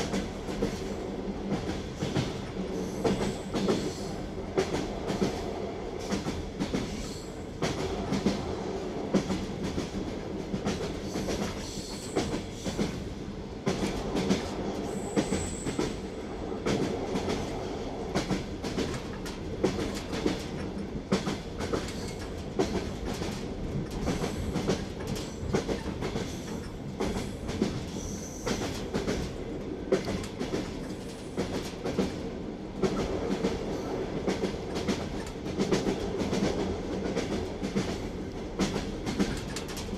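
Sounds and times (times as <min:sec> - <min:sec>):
train rolling rumble: 0:00.0 - 0:39.9
train wheels clickety-clack: 0:00.0 - 0:39.9.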